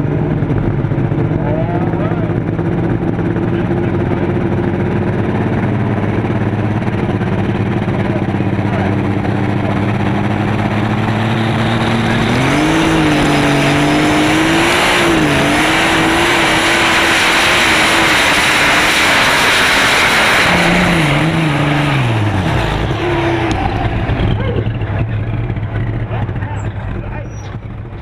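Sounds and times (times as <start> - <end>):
pulling tractor engine revving: 0.0 - 28.0.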